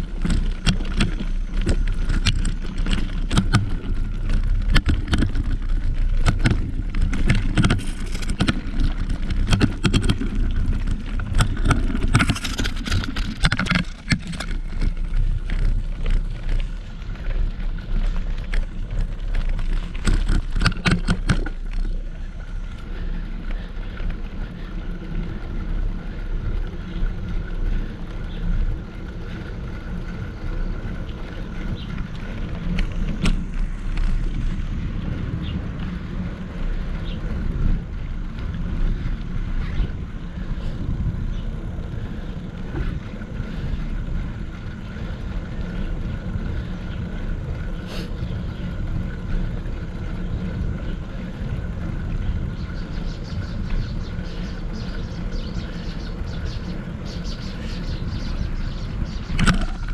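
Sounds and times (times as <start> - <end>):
tyre and road noise: 0.0 - 59.9
wind rumbling on microphone: 0.0 - 59.9.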